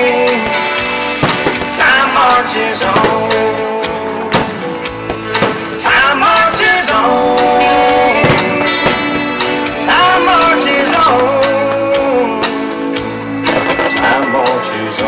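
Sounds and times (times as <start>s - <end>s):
song with singing over a band: 0.0s - 15.0s.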